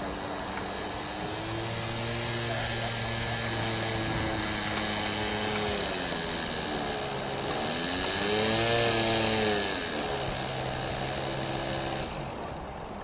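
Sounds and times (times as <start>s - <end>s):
model plane engine running: 0.0s - 13.0s.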